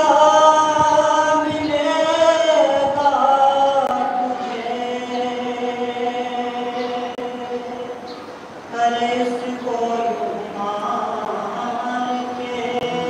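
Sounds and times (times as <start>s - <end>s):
man chanting through a microphone: 0.0s - 8.1s, 8.7s - 13.0s.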